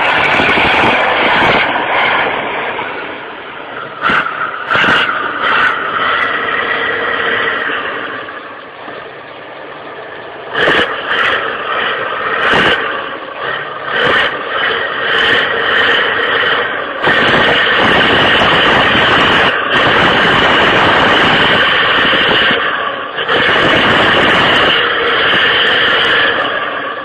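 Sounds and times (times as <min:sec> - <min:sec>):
truck engine running with hiss: 0:00.0 - 0:27.0.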